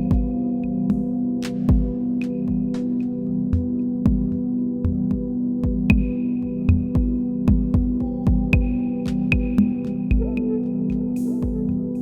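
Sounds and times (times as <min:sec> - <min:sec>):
deep kick drum beat: 0:00.0 - 0:02.8, 0:03.6 - 0:11.8
low synth drone: 0:00.0 - 0:12.0.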